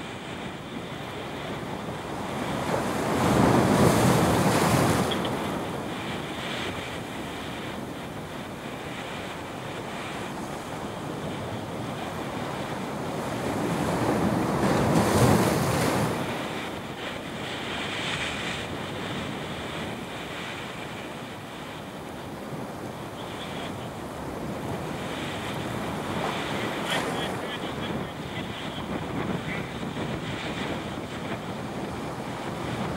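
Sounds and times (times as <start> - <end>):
ocean surf breaking on rocks: 0.0 - 32.9
wind buffeting microphone: 0.0 - 32.9.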